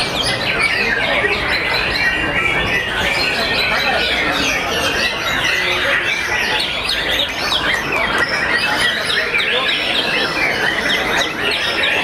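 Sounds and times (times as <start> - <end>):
chorus of birds singing: 0.0 - 12.0.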